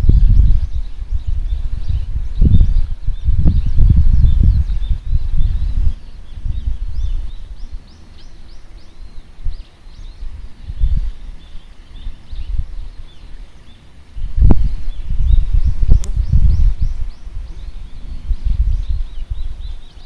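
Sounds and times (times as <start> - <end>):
bird chirping: 0.0 - 20.0
gusting outdoor rumble: 0.0 - 20.0.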